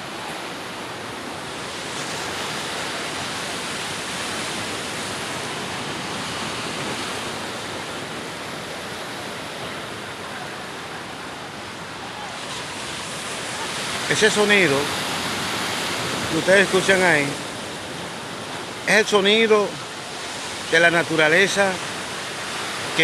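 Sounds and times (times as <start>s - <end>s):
surf breaking: 1.4s - 23.0s.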